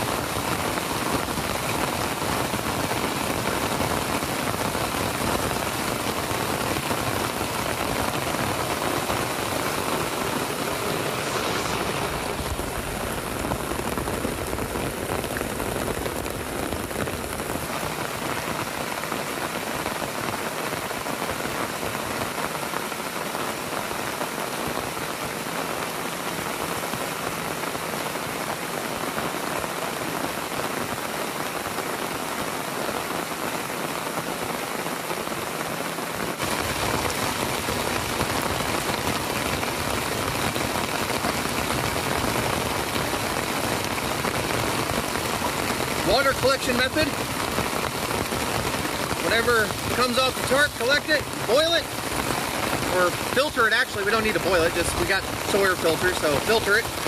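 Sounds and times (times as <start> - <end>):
heavy rain on trees: 0.0 - 57.0.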